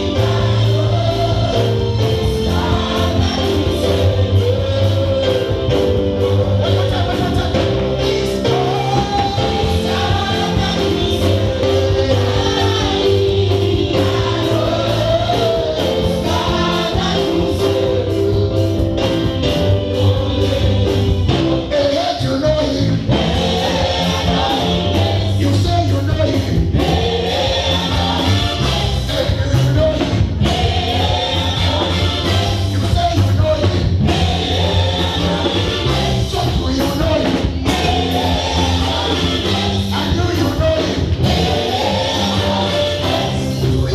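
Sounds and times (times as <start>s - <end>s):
bass line: 0.0s - 43.9s
gospel choir singing: 0.0s - 43.9s
regular beat: 0.0s - 43.9s.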